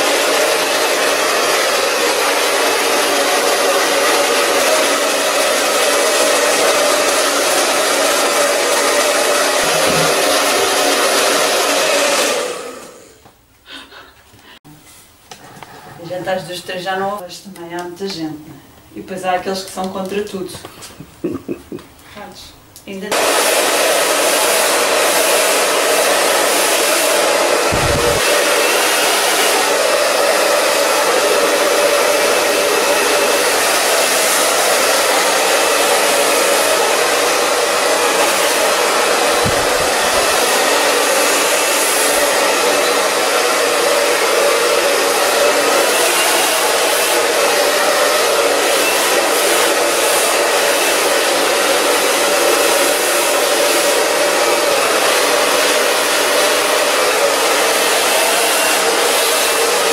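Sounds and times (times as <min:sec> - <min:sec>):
hair dryer running: 0:00.0 - 0:13.3, 0:23.1 - 0:59.9.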